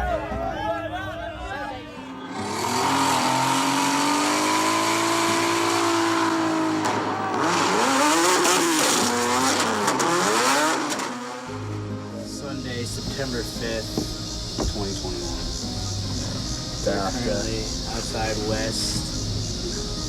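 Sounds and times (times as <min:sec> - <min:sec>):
car tyres squealing: 0:02.2 - 0:11.8, 0:13.1 - 0:19.9
car engine revving: 0:02.2 - 0:20.0.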